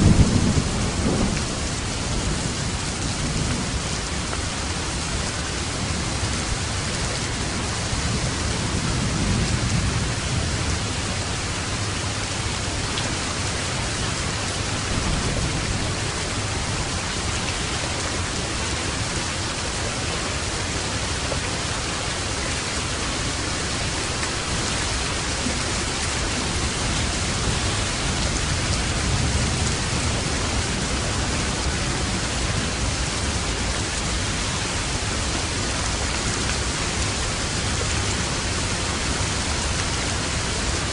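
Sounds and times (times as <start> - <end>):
low thunder rumbling: 0.0 - 19.7, 20.6 - 40.9
steady rain: 0.0 - 40.9.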